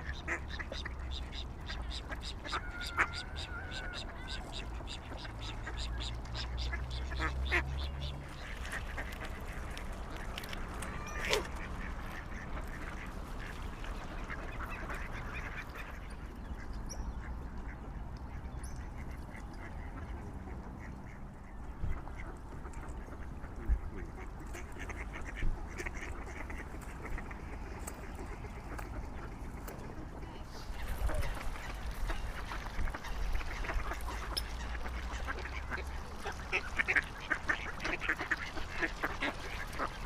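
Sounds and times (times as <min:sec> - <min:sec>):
waterfowl calling: 0:00.0 - 0:23.4, 0:24.0 - 0:40.0.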